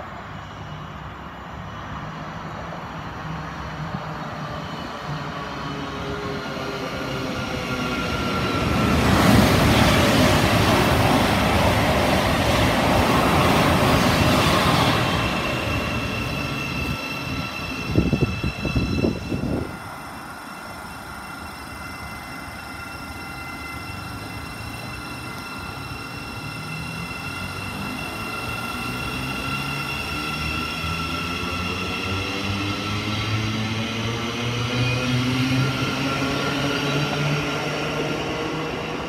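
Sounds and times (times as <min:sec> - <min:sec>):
electric train whine: 0:00.0 - 0:39.0.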